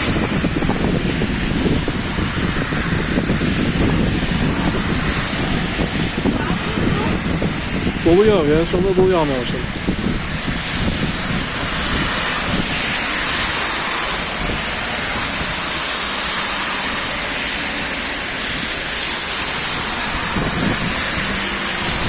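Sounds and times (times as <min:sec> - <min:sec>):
hail and rain falling: 0:00.0 - 0:22.0.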